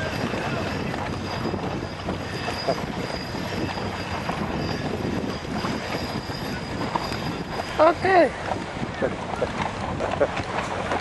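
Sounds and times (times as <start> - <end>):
waves washing: 0.0 - 11.0
wind buffeting microphone: 0.0 - 11.0.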